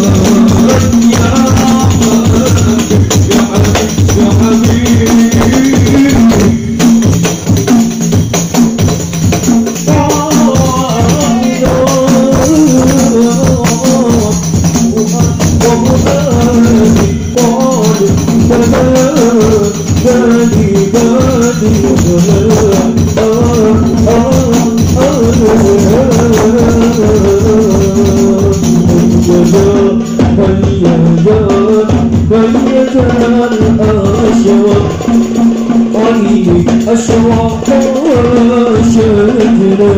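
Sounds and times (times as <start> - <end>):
man singing into a microphone: 0.0 - 7.6, 9.5 - 39.9
frame drums beating: 0.0 - 39.9.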